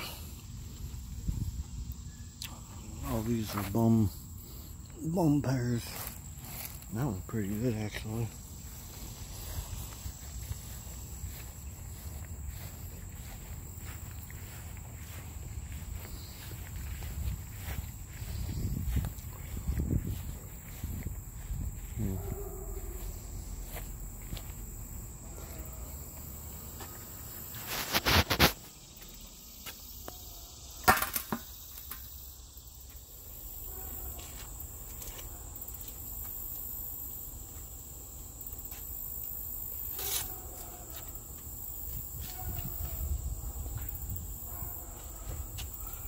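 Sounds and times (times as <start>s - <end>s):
high-pitched insect drone: 0.0s - 46.0s.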